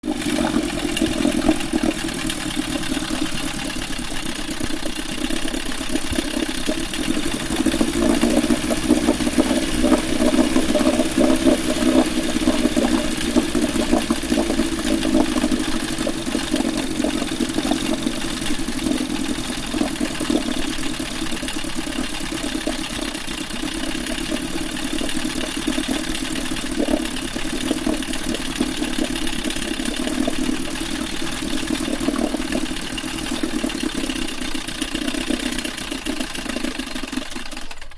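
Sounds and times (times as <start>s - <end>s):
outboard motor knocking: 0.0s - 37.9s.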